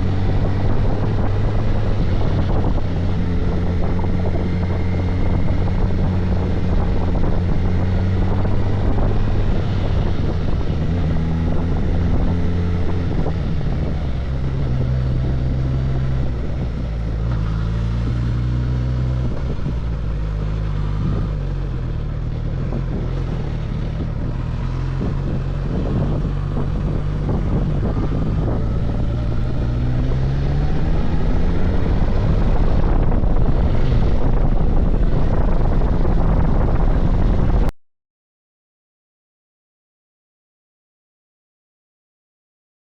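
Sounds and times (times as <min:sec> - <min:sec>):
motorcycle engine running: 0:00.0 - 0:37.7.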